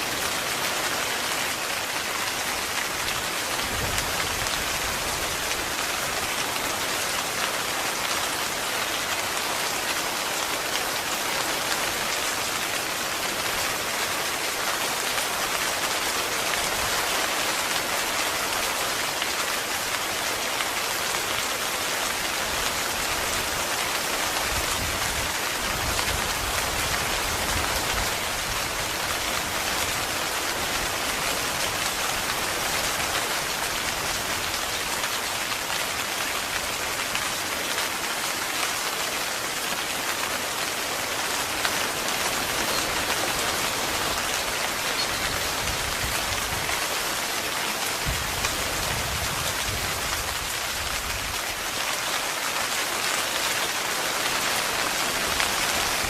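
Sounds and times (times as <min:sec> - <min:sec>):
heavy rain drumming on tent fabric: 0:00.0 - 0:56.0.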